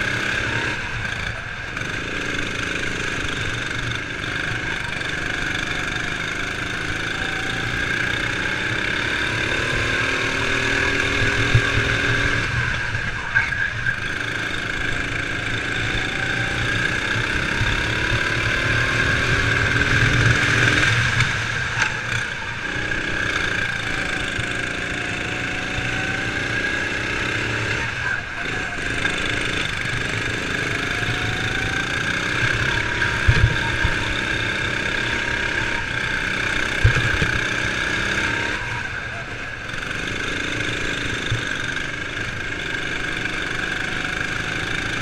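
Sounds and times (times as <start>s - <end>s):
kart engine racing: 0.0s - 45.0s.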